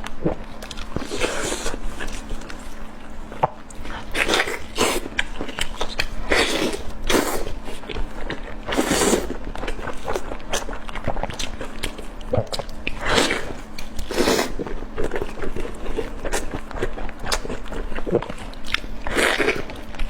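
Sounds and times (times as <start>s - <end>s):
chewing and biting: 0.1s - 20.0s.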